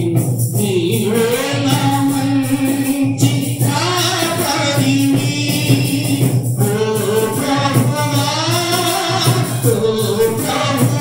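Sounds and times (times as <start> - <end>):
instrumental accompaniment: 0.0 - 11.0
voices singing held notes: 0.0 - 11.0.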